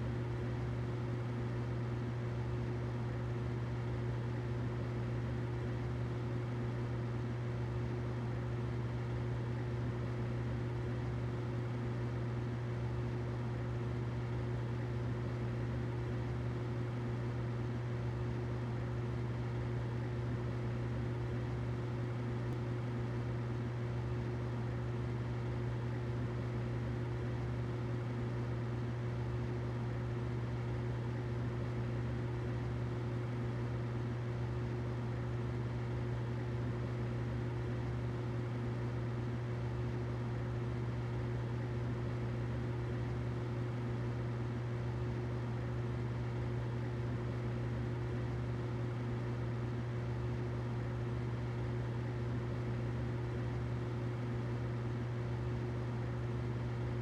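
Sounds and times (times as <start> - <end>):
humidifier humming: 0.0 - 57.0.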